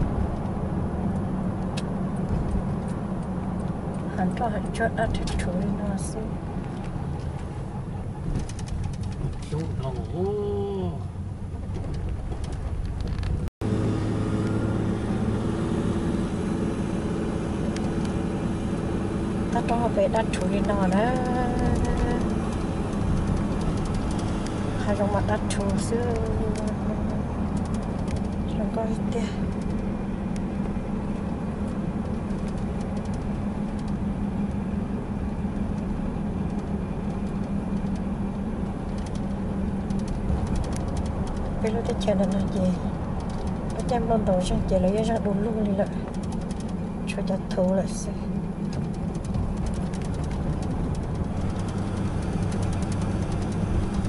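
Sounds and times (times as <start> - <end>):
car engine and tyres humming: 0.0 - 54.0.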